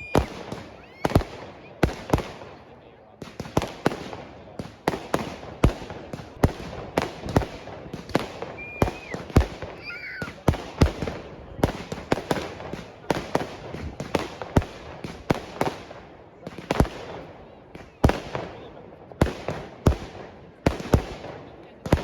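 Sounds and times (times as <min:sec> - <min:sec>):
fireworks crackling: 0:00.0 - 0:02.6, 0:03.2 - 0:22.0
fireworks bangs: 0:00.0 - 0:22.0.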